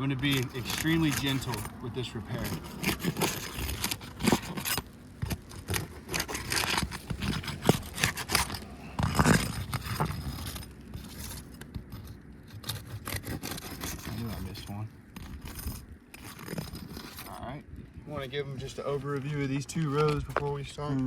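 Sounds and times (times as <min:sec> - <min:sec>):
roof shingles scraping and crackling: 0:00.0 - 0:17.4.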